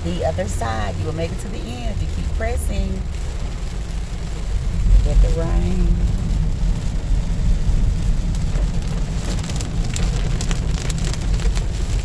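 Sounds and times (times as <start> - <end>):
heavy rain pouring: 0.0 - 12.0
raindrops tapping: 0.0 - 12.0.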